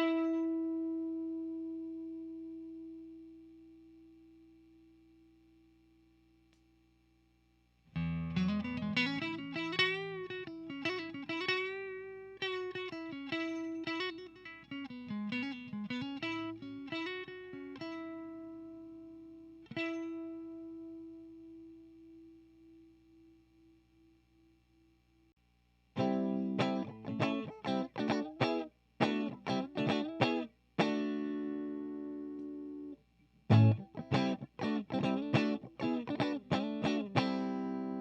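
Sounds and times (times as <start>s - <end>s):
electric guitar with string bends: 0.0s - 5.0s, 7.9s - 23.3s, 26.0s - 38.0s.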